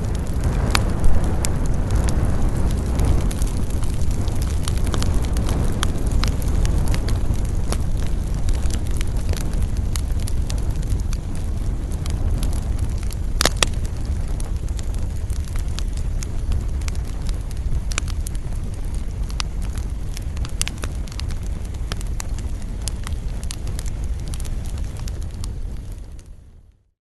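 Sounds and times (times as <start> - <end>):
fire crackling and popping: 0.0 - 26.9
fire rumbling: 0.0 - 26.9.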